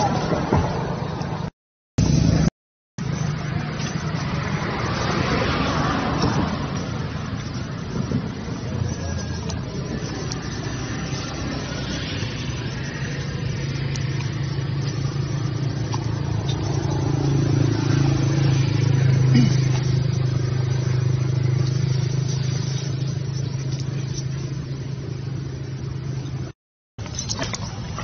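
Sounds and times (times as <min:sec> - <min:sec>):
motor engine running: 0:02.0 - 0:26.5.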